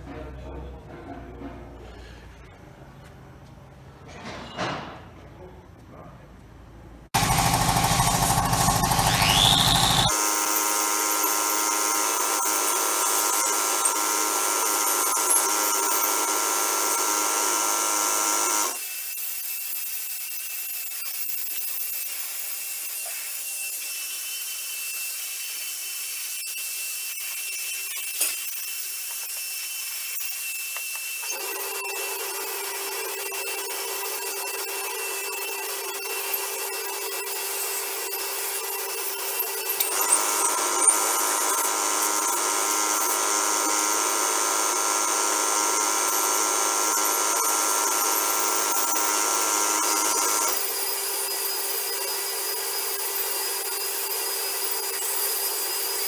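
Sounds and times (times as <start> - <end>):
handheld power tool running: 7.2 - 56.0.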